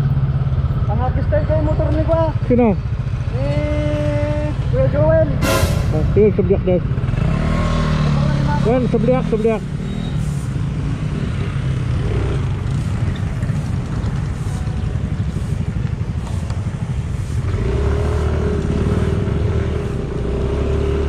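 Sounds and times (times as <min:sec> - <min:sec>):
motorcycle engine running: 0:00.0 - 0:05.3, 0:06.2 - 0:21.0
second engine humming: 0:00.0 - 0:21.0.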